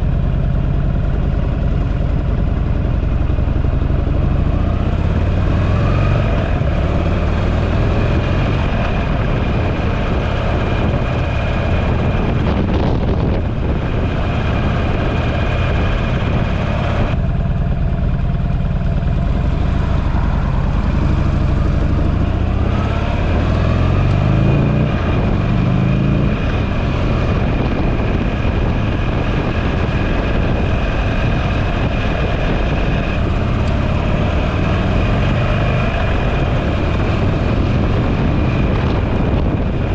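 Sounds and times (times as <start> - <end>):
motorcycle engine accelerating: 0.0 - 39.9
wind rush over microphone: 1.1 - 39.9.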